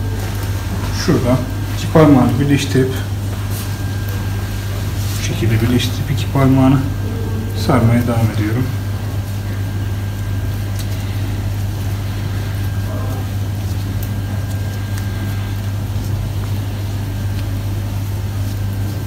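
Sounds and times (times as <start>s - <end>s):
faint high whine: 0.0s - 19.0s
steady low hum: 0.0s - 19.0s.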